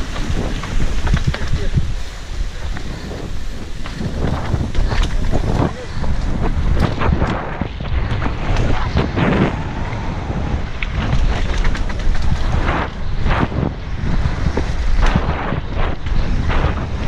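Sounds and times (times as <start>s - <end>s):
bike knocks and rattles: 0.0s - 17.0s
tyre noise on dirt: 0.0s - 17.0s
wind rushing over microphone: 0.0s - 17.0s.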